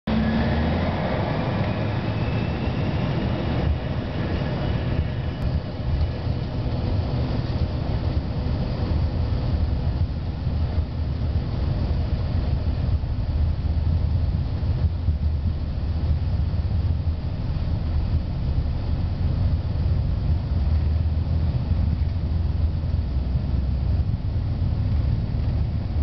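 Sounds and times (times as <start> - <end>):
airliner engines rumbling: 0.0 - 26.0
rushing noise: 0.0 - 26.0
faint rising whine: 0.1 - 26.0.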